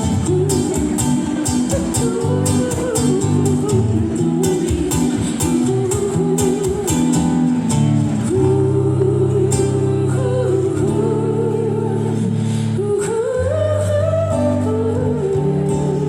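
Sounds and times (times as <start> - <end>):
person singing long notes: 0.0 - 16.0.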